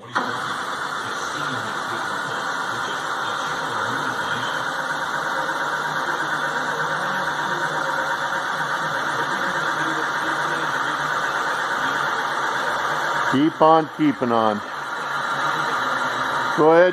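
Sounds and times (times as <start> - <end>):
machinery running with low hum: 0.0 - 16.9.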